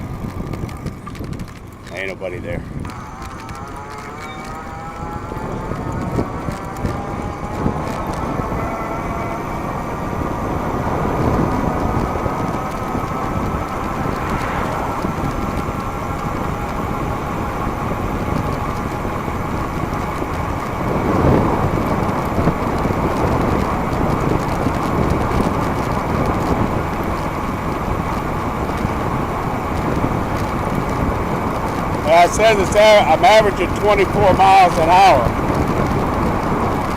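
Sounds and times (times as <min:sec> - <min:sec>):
bicycle tyre noise: 0:00.0 - 0:36.9
wind rushing over microphone: 0:00.0 - 0:36.9
electric motor whine: 0:00.6 - 0:32.7.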